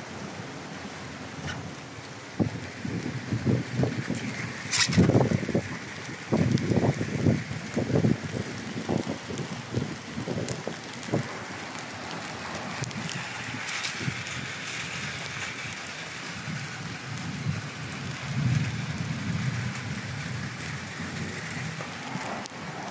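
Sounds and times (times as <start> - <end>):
water pattering on roof: 0.0 - 22.9.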